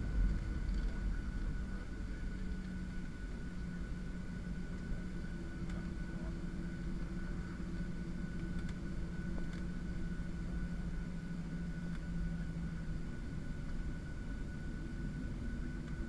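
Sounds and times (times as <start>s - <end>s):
faint high whine: 0.0s - 16.0s
jet engine and airflow drone: 0.0s - 16.0s.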